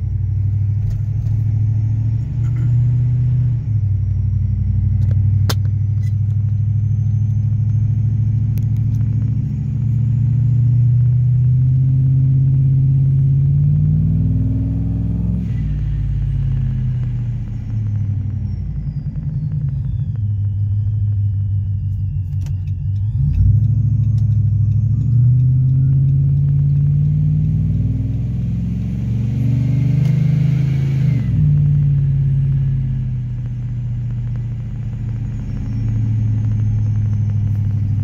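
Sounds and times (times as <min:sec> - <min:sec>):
car engine accelerating: 0:00.0 - 0:38.0
supercharger whine: 0:00.0 - 0:38.0.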